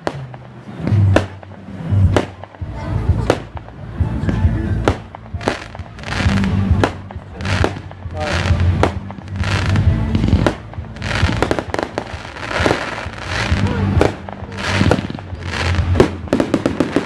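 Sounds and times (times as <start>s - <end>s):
fireworks crackling: 0.0s - 17.0s
music playing: 0.0s - 17.0s.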